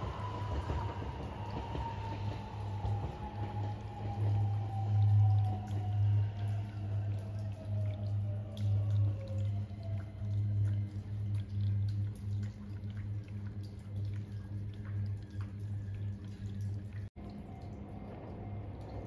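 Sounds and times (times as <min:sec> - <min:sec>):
low steady hum: 0:00.0 - 0:19.0
rainwater dripping: 0:00.0 - 0:19.0.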